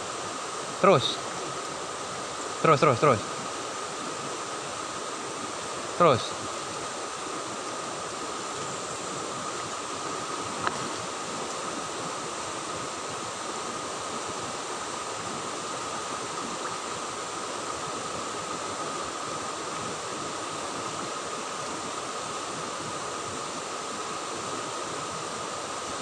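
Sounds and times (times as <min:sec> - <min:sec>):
river rushing over boulders: 0:00.0 - 0:26.0.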